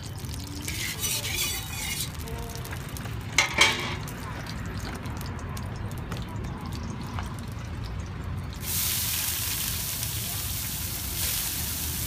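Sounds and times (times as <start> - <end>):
oil sizzling in a wok: 0.0 - 5.8, 6.8 - 12.0.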